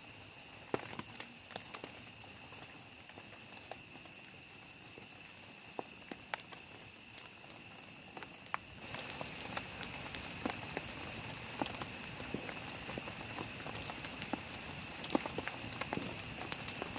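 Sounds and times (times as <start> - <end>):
rain pattering on plastic tarp: 0.0 - 16.9
high insect trill: 1.8 - 16.9.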